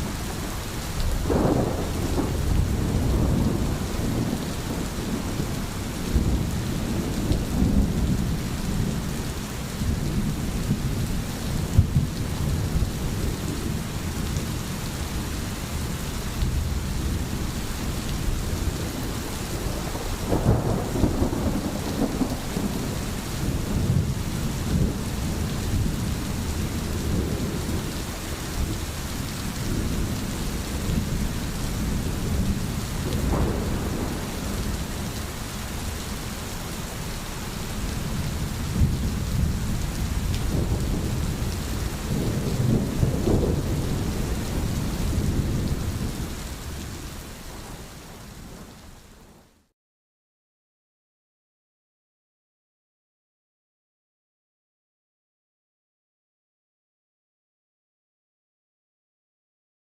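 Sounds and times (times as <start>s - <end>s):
steady rain: 0.0s - 49.7s
low rolling thunder: 0.1s - 37.1s, 37.7s - 48.7s.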